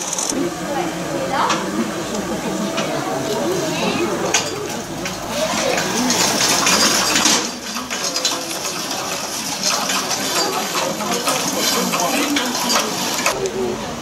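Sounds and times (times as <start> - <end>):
model train clicking and rattling: 0.0 - 13.6
people talking: 0.0 - 14.0.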